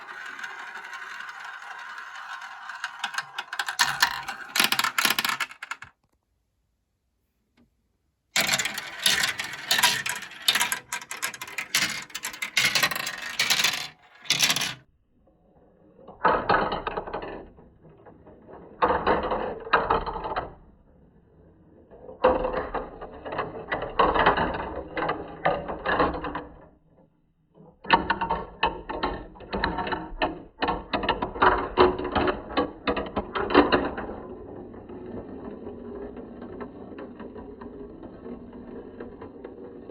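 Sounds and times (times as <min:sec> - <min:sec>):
marbles rolling down plastic track: 0:00.0 - 0:06.0, 0:08.4 - 0:14.9, 0:15.6 - 0:26.8, 0:27.6 - 0:39.9.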